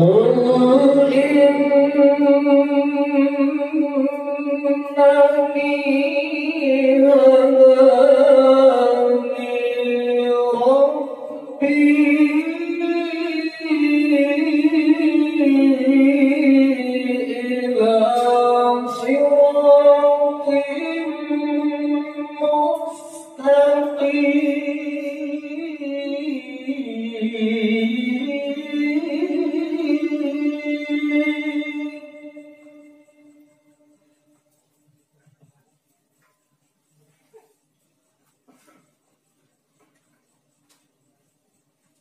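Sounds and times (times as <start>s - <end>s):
man chanting melodically: 0.0s - 35.1s.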